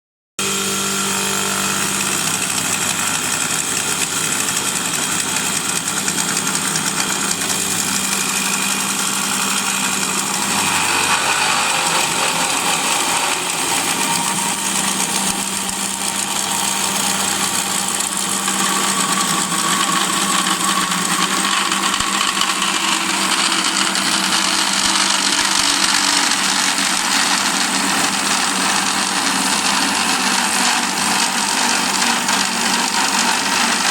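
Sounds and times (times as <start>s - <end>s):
cutter shaving wood: 0.4s - 33.9s
lathe motor hum: 0.4s - 33.9s.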